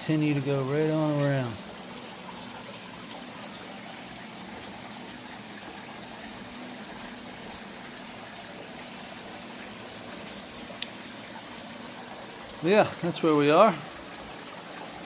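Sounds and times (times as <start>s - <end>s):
running water trickling: 0.0s - 15.0s.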